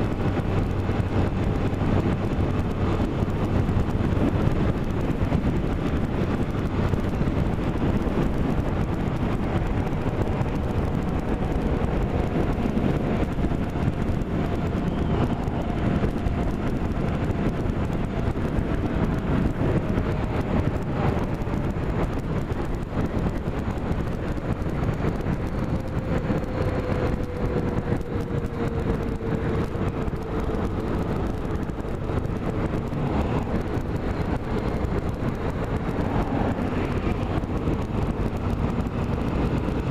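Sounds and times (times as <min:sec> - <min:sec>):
vehicle running noise: 0:00.0 - 0:39.9
wind rushing over microphone: 0:00.0 - 0:39.9.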